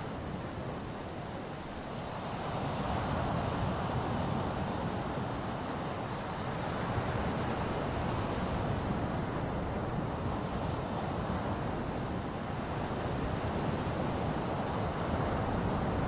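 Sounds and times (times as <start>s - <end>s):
ocean waves washing on shore: 0.0s - 16.0s.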